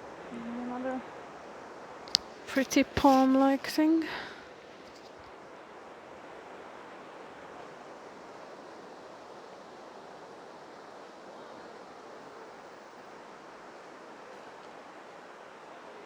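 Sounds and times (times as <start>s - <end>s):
rushing hiss of ambience: 0.0s - 16.0s.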